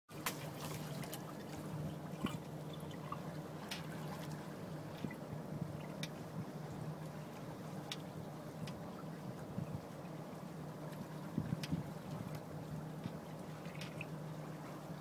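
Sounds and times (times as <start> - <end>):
light wind: 0.1 - 15.0
water drips and splashes: 0.1 - 15.0
water lapping against boat hull: 0.1 - 15.0.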